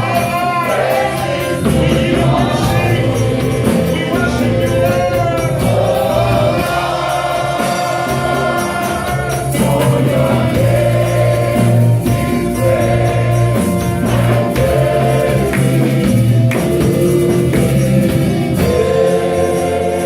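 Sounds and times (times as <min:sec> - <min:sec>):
choir singing gospel music: 0:00.0 - 0:20.0
steady bass: 0:00.0 - 0:20.0
tambourine beat: 0:00.0 - 0:20.0.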